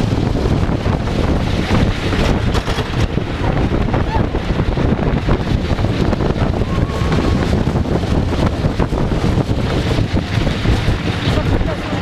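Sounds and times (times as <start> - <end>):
roller coaster rumbling and clattering: 0.0 - 12.0
wind buffeting microphone: 0.0 - 12.0.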